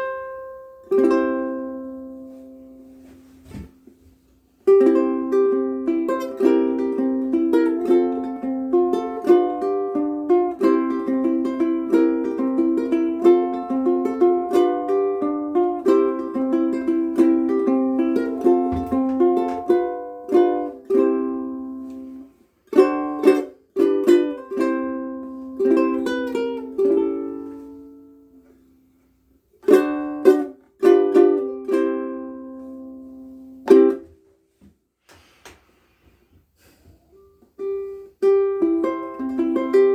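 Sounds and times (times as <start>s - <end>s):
ukulele playing: 0.0s - 34.6s, 37.2s - 39.9s.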